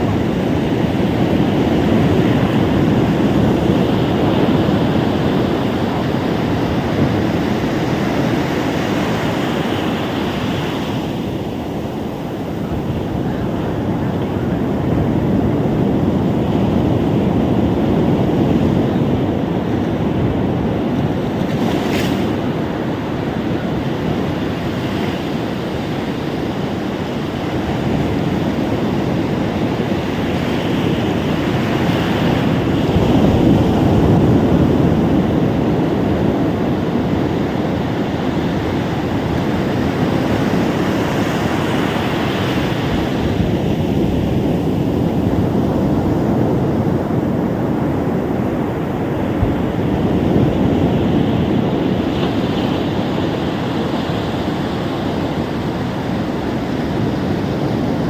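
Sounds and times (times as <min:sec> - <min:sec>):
surf washing onto beach: 0:00.0 - 0:58.0.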